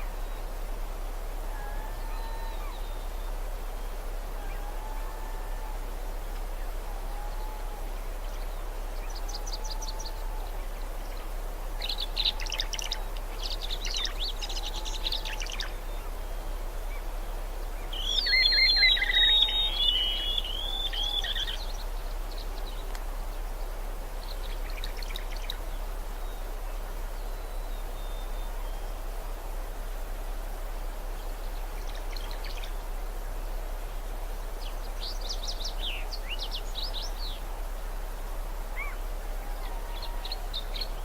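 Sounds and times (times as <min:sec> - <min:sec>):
outdoor ambience hiss: 0:00.0 - 0:41.0.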